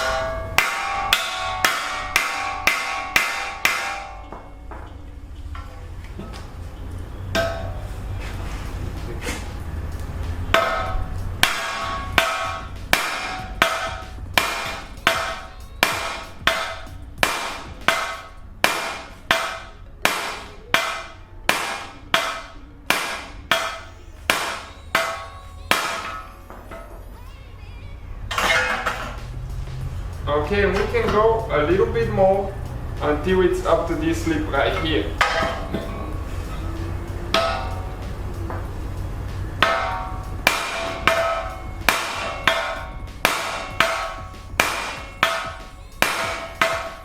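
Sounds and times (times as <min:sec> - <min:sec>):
hammer striking metal: 0:00.0 - 0:06.5, 0:07.3 - 0:27.1, 0:28.3 - 0:47.0.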